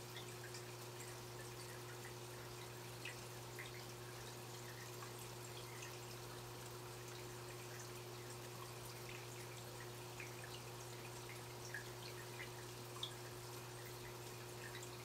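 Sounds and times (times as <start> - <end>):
water dripping and trickling: 0.0 - 15.0.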